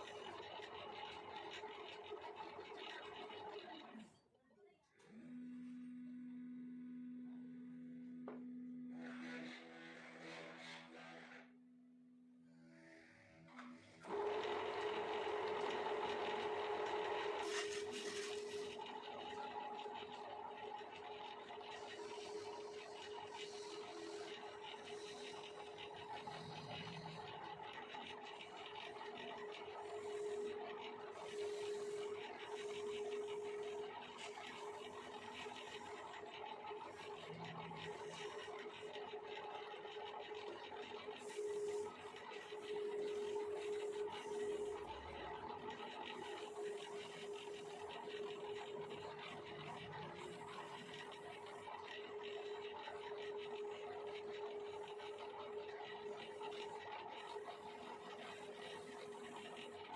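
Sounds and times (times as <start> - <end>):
wood lathe humming: 5.0 - 11.6, 13.5 - 59.9.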